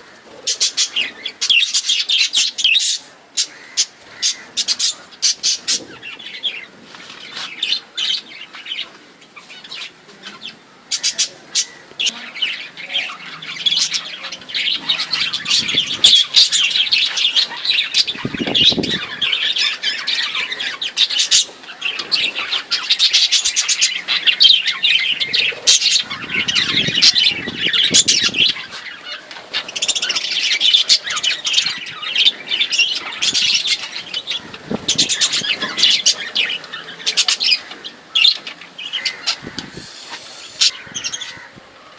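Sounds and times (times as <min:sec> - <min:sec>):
budgerigars chirping and chattering: 0:00.0 - 0:41.9.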